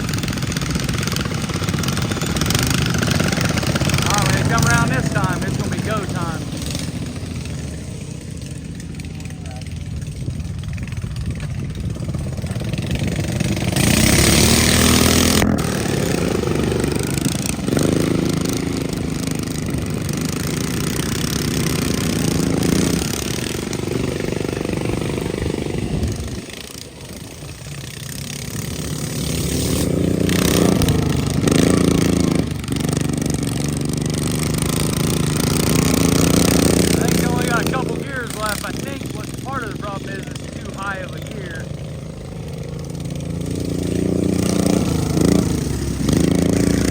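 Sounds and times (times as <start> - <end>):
riding lawn mower engines: 0.0 - 46.9.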